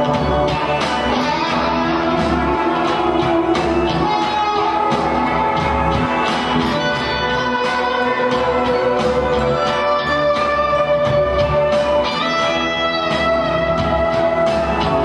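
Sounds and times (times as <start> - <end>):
drums keeping steady beat: 0.0 - 15.0
electric guitars: 0.0 - 15.0.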